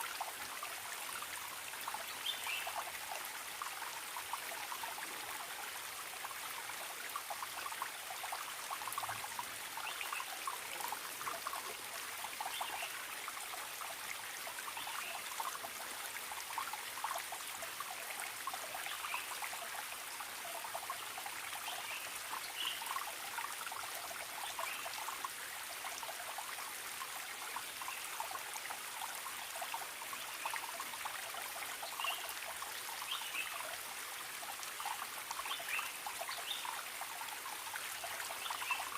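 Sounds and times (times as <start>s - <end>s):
stream trickling and babbling: 0.0s - 38.9s.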